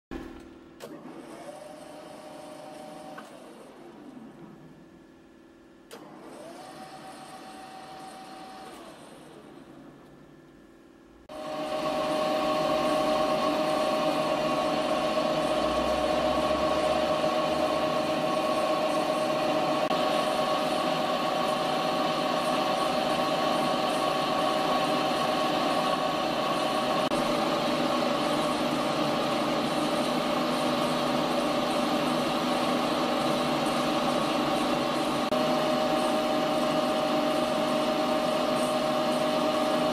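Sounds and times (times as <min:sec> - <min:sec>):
lathe running with multi-tone whine: 0:01.1 - 0:04.9, 0:05.9 - 0:39.9.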